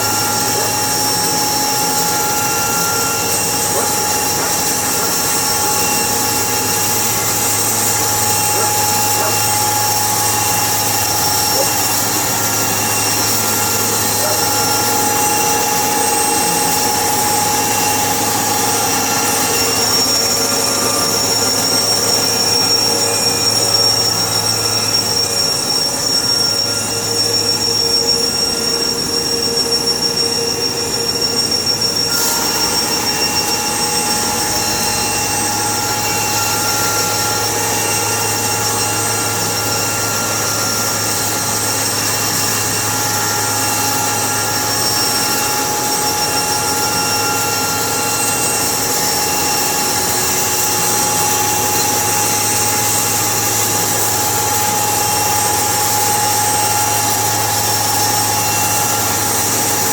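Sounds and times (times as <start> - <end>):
sawmill machinery squealing: 0.0 - 59.9.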